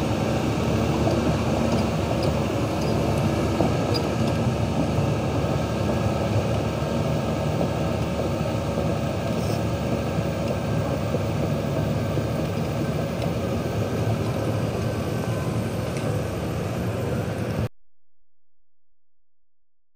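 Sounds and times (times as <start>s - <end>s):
concrete pump engine running: 0.0s - 17.7s.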